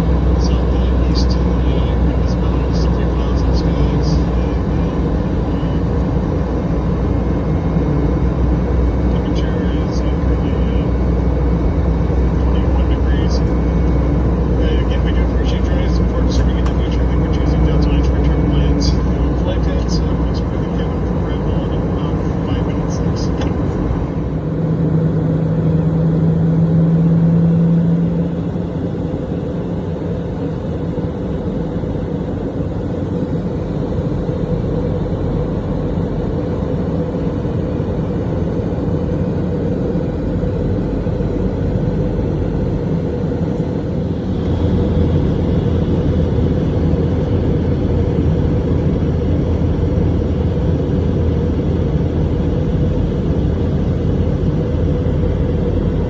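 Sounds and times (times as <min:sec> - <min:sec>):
airliner cabin droning rumble: 0:00.0 - 0:56.0
deeper drone: 0:00.0 - 0:56.0
low hum: 0:00.0 - 0:56.0.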